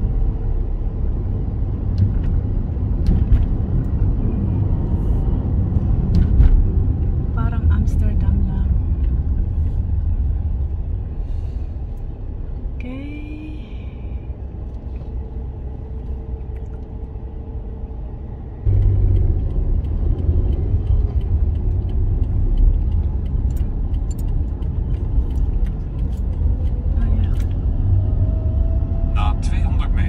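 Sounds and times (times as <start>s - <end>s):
car engine rumbling: 0.0s - 30.0s.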